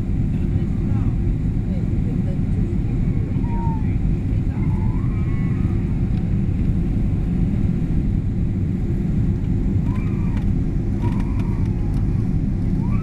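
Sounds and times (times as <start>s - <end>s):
airliner engines rumbling: 0.0s - 13.0s
rushing air in cabin: 0.0s - 13.0s.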